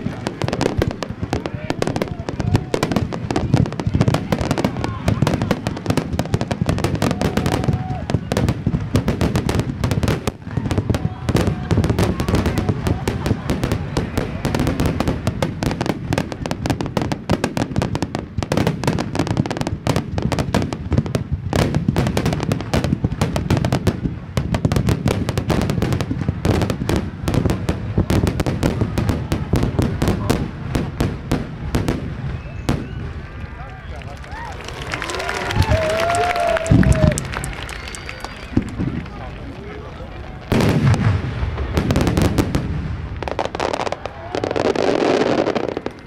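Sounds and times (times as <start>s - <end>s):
fireworks booming and crackling: 0.0s - 46.0s.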